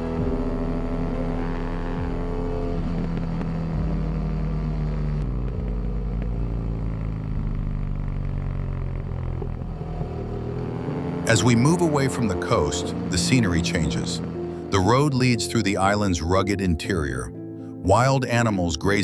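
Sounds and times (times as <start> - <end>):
motorcycle engine running: 0.0 - 16.3.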